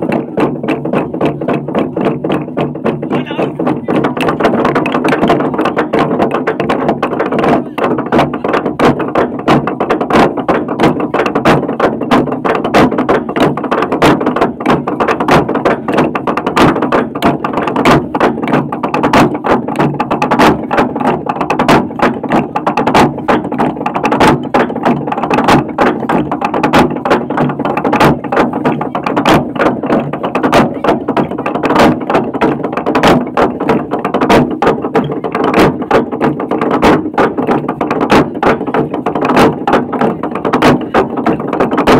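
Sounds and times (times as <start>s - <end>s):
slit drum pounded with wooden beaters: 0.0s - 41.9s.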